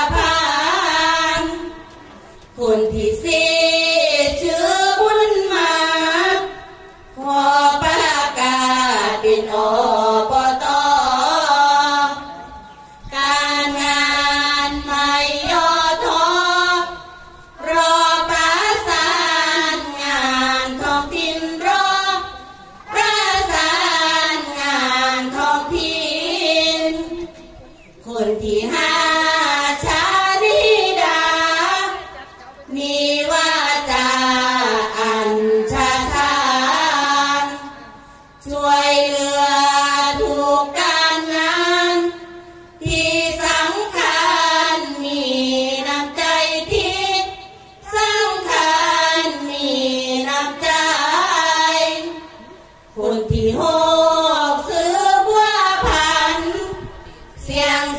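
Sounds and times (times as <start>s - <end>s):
women singing in unison: 0.0s - 57.9s.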